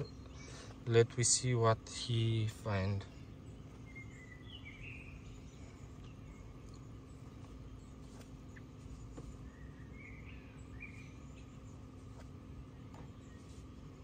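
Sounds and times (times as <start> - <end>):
faint birds chirping: 0.0 - 14.0
low background hum: 0.0 - 14.0.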